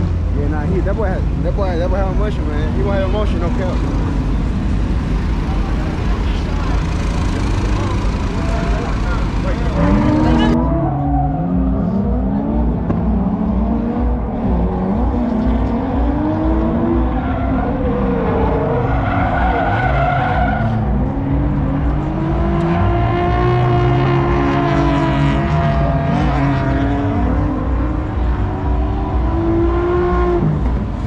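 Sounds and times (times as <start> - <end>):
car engine revving: 0.0 - 31.0
tires squealing: 1.5 - 31.0.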